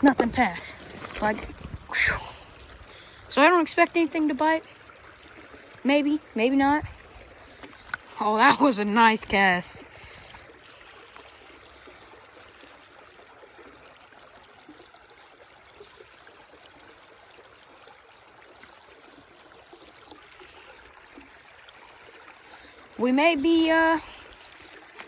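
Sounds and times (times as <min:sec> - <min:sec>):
creek water trickling: 0:00.0 - 0:25.0.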